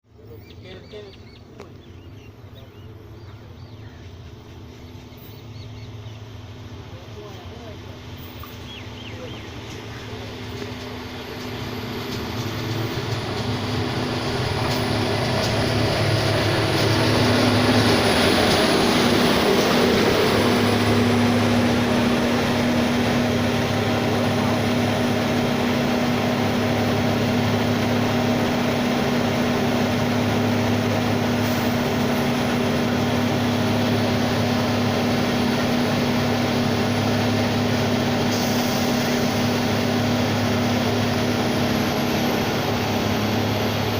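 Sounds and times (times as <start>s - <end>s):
machine engine humming: 1.4s - 43.9s.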